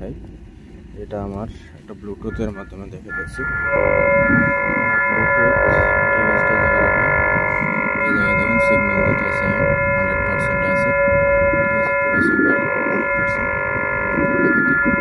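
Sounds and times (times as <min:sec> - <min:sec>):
low rumbling background: 0:00.0 - 0:15.0
cable locator electronic tone: 0:02.0 - 0:15.0.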